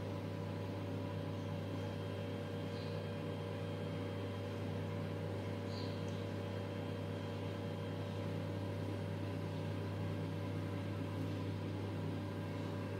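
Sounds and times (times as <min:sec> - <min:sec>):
low machine hum with hiss: 0:00.0 - 0:12.9.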